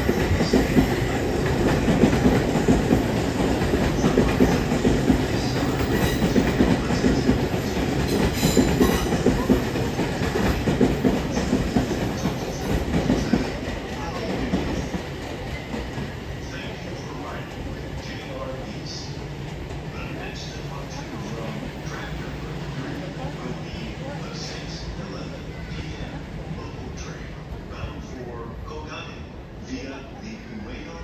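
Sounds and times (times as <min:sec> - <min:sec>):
train running on rails: 0:00.0 - 0:31.0.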